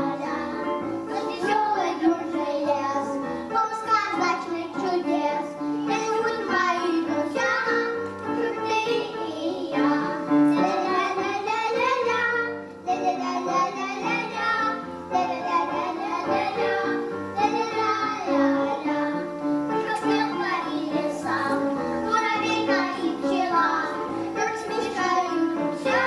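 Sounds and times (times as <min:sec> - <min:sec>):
children singing through microphones: 0:00.0 - 0:26.0
musical accompaniment: 0:00.0 - 0:26.0.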